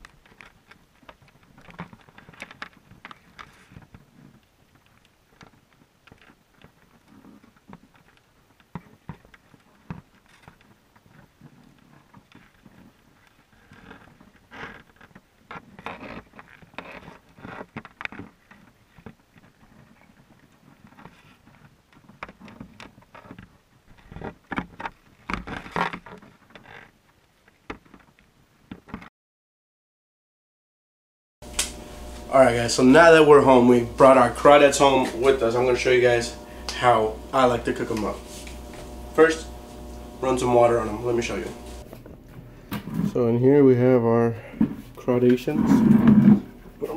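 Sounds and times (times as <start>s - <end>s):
muffled underwater clicks and scraping: 0.0s - 29.1s, 33.2s - 43.2s, 44.4s - 46.9s.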